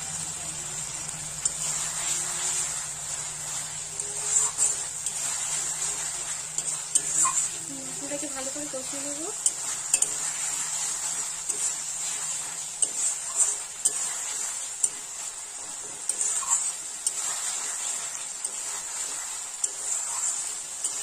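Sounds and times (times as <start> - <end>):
food sizzling in pan: 0.0 - 21.0
metal spatula scraping pan: 1.0 - 21.0.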